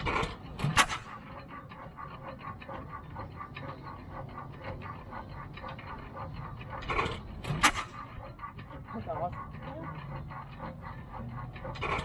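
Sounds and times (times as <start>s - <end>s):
antique engine exhaust puffs: 0.0s - 12.0s.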